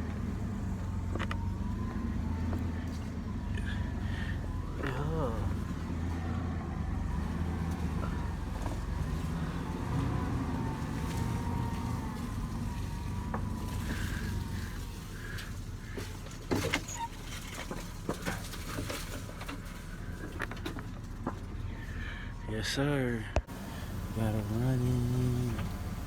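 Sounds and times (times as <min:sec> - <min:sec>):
engine rumbling: 0:00.0 - 0:26.0.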